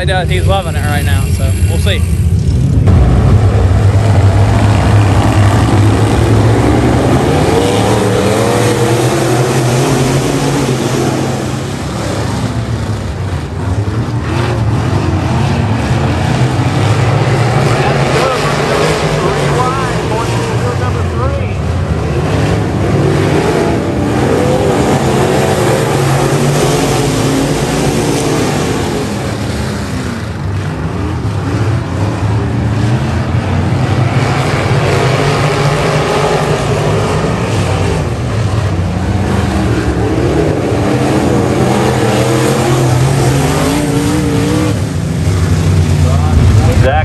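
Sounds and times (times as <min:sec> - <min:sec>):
race car engines: 0:00.0 - 0:47.0.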